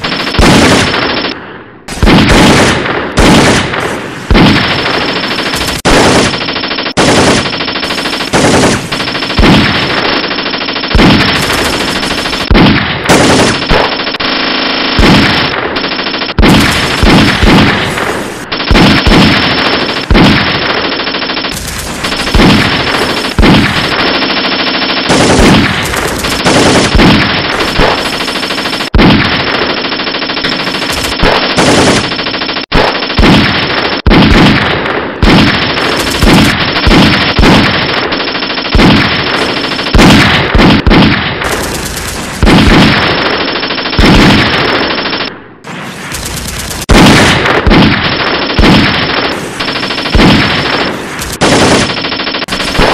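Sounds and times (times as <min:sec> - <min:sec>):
automatic rifle fire: 0:00.0 - 0:52.9.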